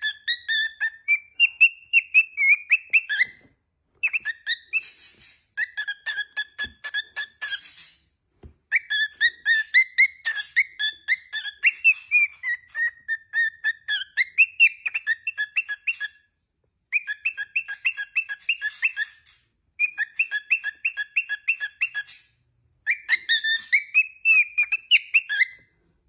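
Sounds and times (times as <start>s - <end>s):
cockatiel whistling chirpy notes: 0.0s - 8.0s, 8.7s - 16.3s, 16.9s - 25.7s.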